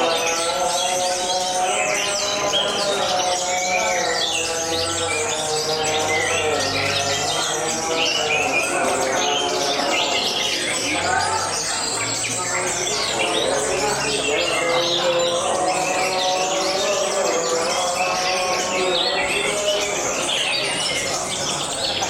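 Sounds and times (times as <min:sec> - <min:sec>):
canaries singing: 0:00.0 - 0:22.0.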